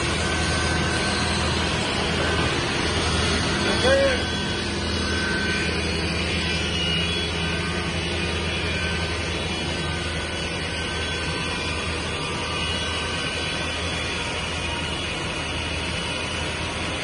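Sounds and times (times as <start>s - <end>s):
factory machinery humming: 0.0s - 17.0s.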